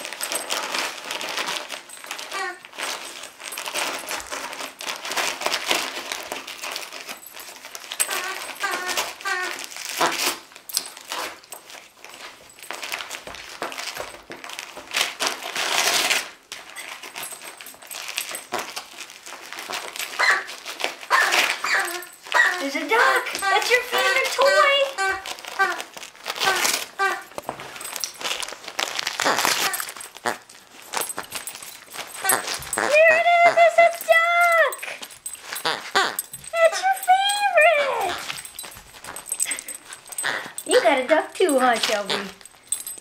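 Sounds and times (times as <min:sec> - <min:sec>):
wrapping paper crinkling and tearing: 0:00.0 - 0:43.0.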